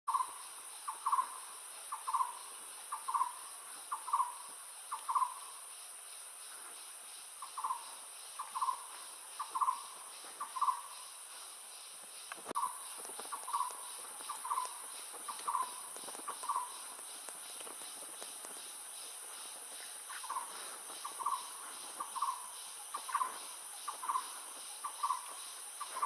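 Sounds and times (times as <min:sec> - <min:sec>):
high-pitched insect drone: 0:00.1 - 0:26.0.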